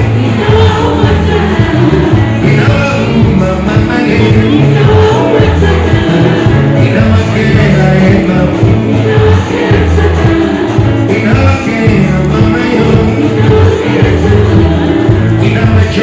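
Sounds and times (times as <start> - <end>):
heavy bass line: 0.0 - 16.0
live band music: 0.0 - 16.0
person singing: 0.0 - 16.0.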